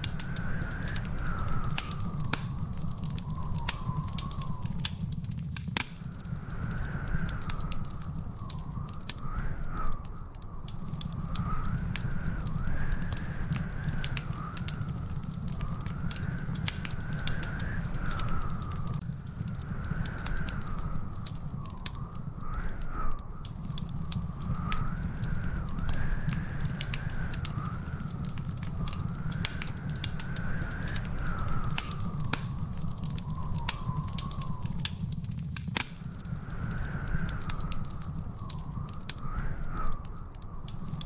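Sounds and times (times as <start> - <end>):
faint wavering whistle tone: 0.0 - 5.3, 6.0 - 35.2
wood fire crackling: 0.0 - 41.0.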